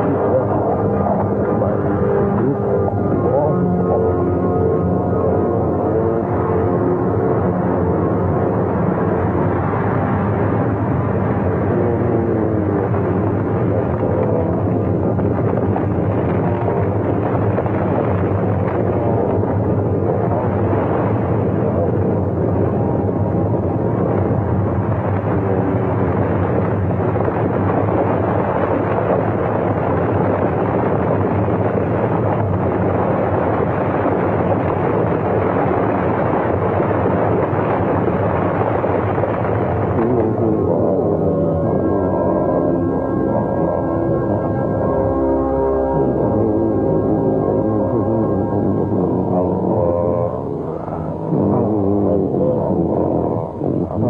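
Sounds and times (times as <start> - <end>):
loud rumbling noise: 0.0 - 54.0.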